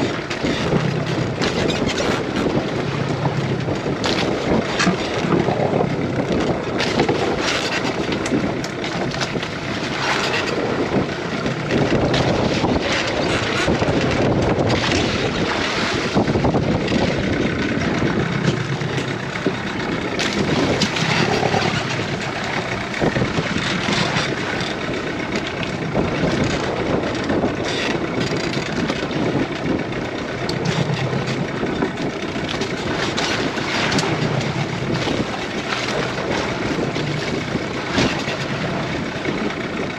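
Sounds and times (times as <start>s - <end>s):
boat engine running: 0.0s - 39.9s
wind buffeting microphone: 0.0s - 39.9s.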